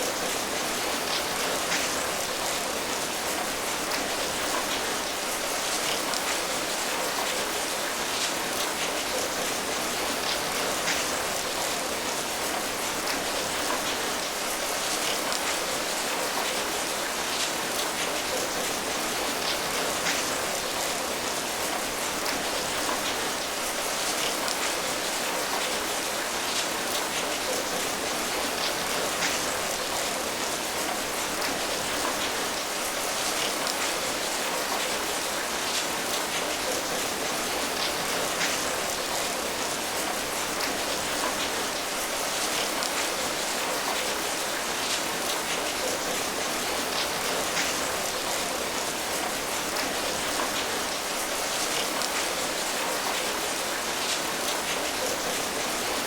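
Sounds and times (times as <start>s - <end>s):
raindrops pattering on a surface: 0.0s - 56.0s.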